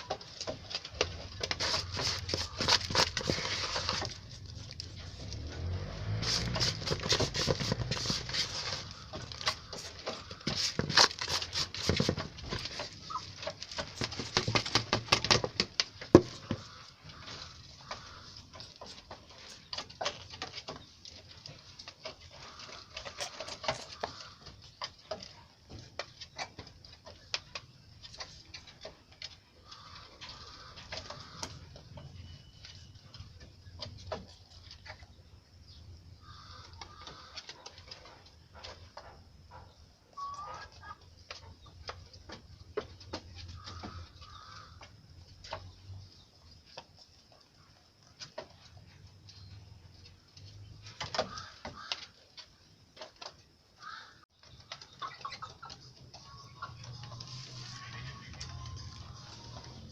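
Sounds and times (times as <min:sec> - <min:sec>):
poultry pecking at feed: 0:00.0 - 0:35.3, 0:36.2 - 0:59.9.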